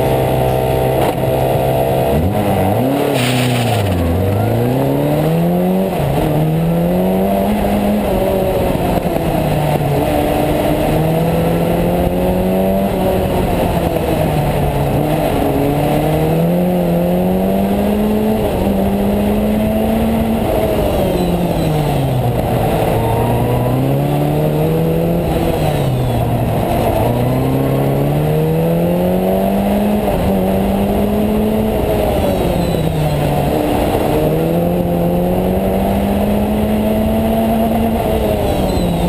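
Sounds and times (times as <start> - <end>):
race car engine revving: 0.0 - 39.0.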